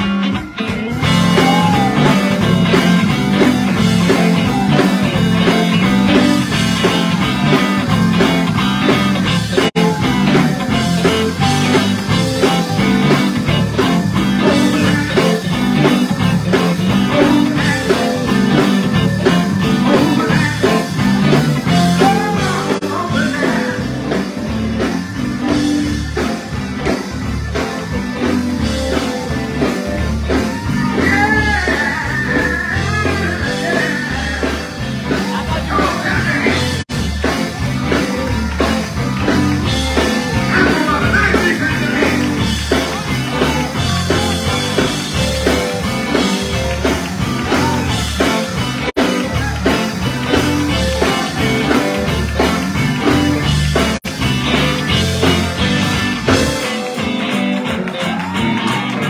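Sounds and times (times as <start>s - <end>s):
steady drum beat: 0.0s - 58.9s
live band playing: 0.0s - 59.0s
voices singing: 0.8s - 24.6s, 29.6s - 53.7s.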